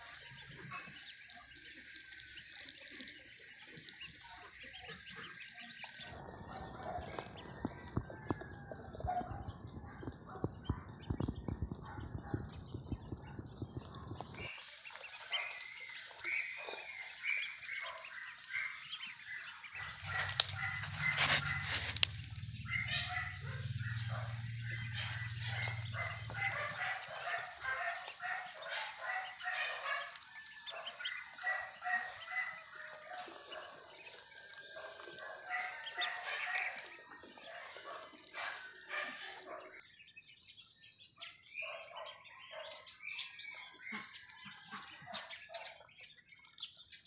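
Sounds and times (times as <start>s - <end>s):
ducklings peeping: 0.0s - 47.0s.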